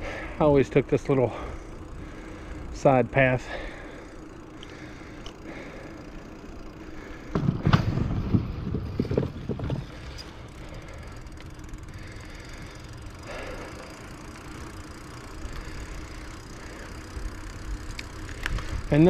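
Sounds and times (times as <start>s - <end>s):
bicycle tyres rattling on wooden planks: 0.0s - 19.0s
bike rolling on asphalt: 0.0s - 19.0s.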